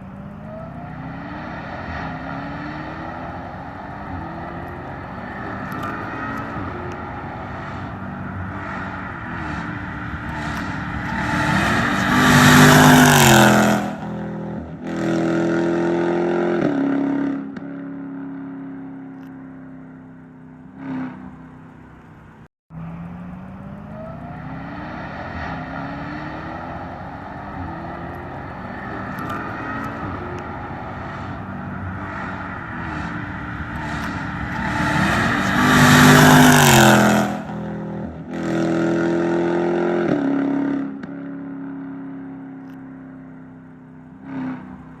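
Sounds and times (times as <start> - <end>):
car engine accelerating hard: 0.0 - 19.3, 20.6 - 45.0.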